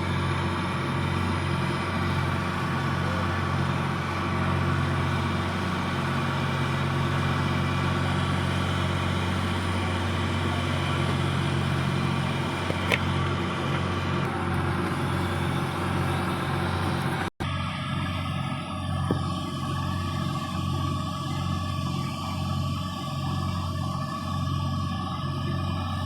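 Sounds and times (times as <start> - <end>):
engine humming steadily: 0.0 - 26.0.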